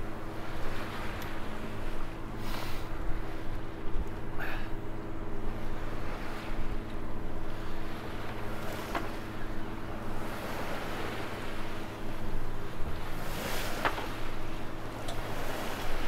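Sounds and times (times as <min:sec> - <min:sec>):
steady low drone: 0:00.0 - 0:16.0
water splashing along boat hull: 0:00.0 - 0:16.0.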